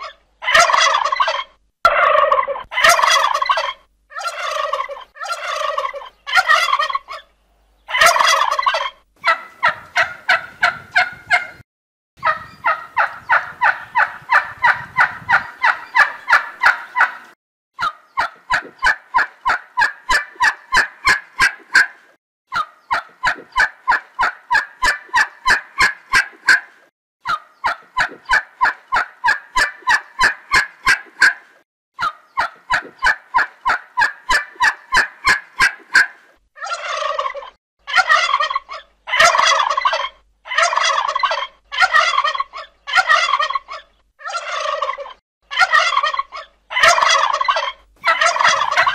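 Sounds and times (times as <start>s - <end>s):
turkey calling: 0.0s - 11.6s, 12.2s - 31.4s, 32.0s - 48.9s.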